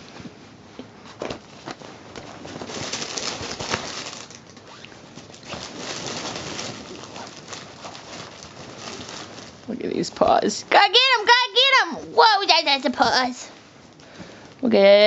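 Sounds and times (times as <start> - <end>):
nylon tunnel rustling and crinkling: 1.2 - 13.6.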